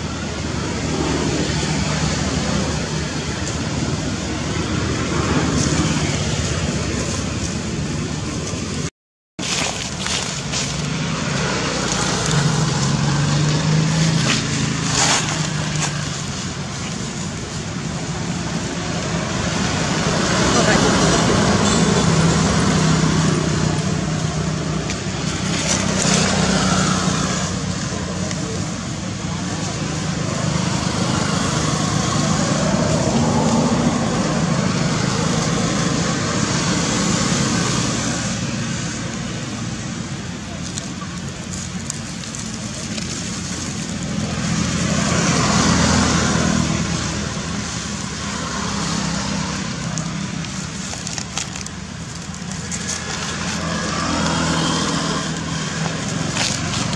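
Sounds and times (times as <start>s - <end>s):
motor traffic noise: 0.0s - 56.9s.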